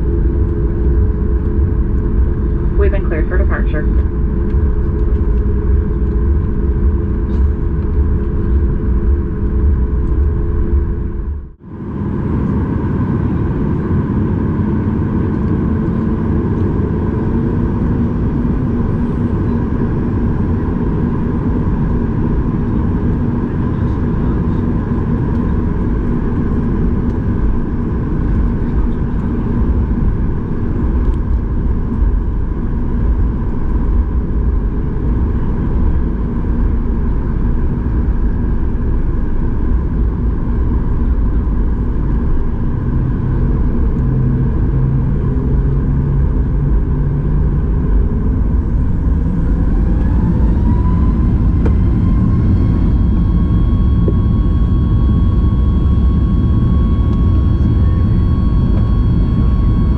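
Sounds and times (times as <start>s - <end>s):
jet engine hum and whine: 0.0s - 59.9s.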